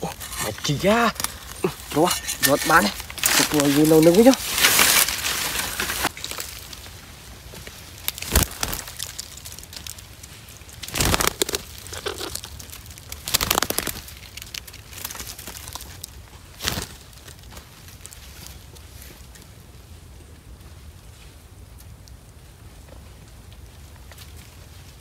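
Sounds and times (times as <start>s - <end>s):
dry leaves and grass rustling: 0.0s - 25.0s
low steady background noise: 0.0s - 25.0s.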